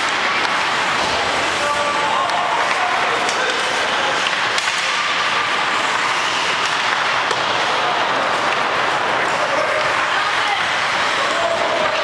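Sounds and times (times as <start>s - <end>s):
hockey sticks and puck clacking: 0.0s - 12.0s.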